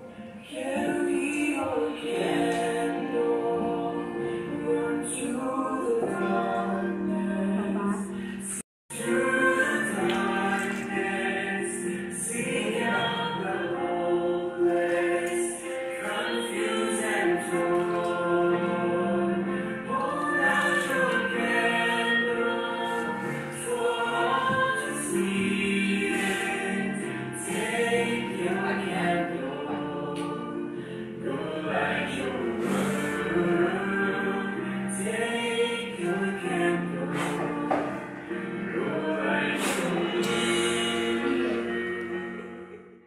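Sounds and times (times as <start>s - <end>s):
choir singing a hymn: 0.0s - 43.0s.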